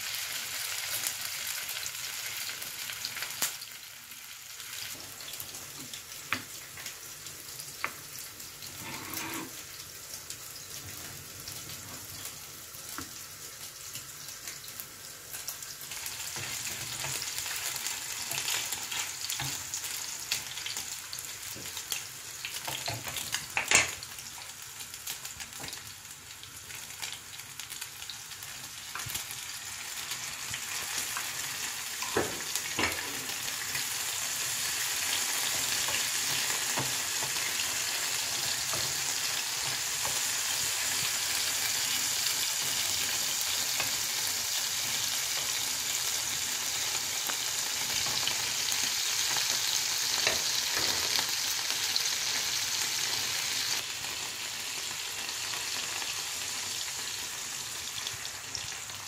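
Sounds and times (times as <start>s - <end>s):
sausage sizzling in hot oil: 0.0s - 59.0s.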